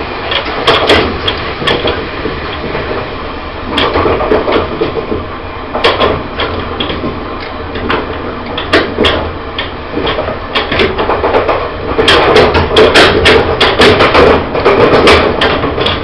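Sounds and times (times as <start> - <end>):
train rumble from inside carriage: 0.0 - 16.0
wheels clacking and knocking: 0.0 - 16.0.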